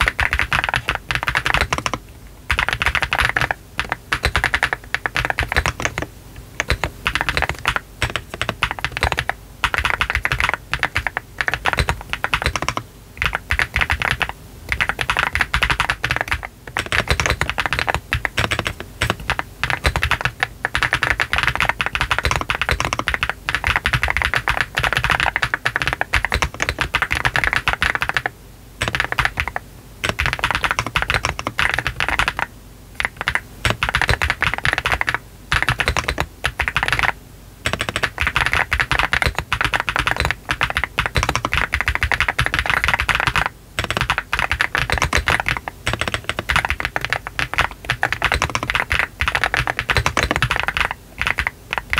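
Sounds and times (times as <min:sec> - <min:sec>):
mechanical keyboard typing: 0:00.0 - 0:51.9.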